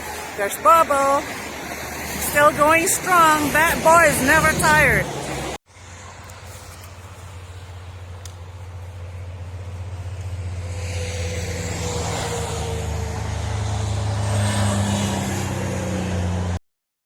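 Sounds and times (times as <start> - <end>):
heavy vehicle passing: 0.0 - 16.6.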